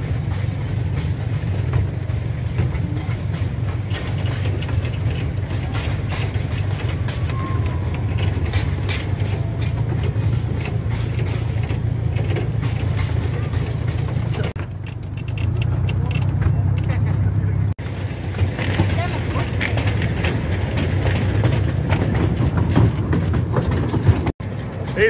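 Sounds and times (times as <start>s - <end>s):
clicks and rattles: 0.0s - 25.0s
miniature train engine rumble: 0.0s - 25.0s.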